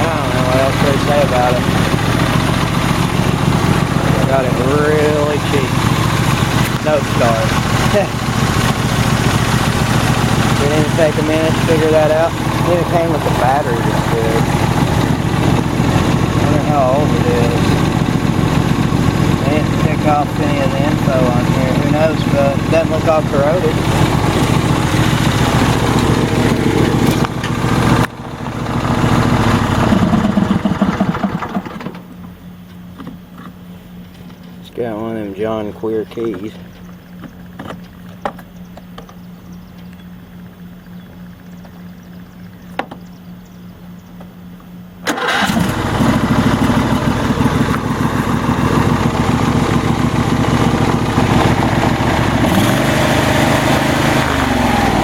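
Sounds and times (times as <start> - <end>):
lawn tractor engine running: 0.0 - 43.2, 45.0 - 55.0.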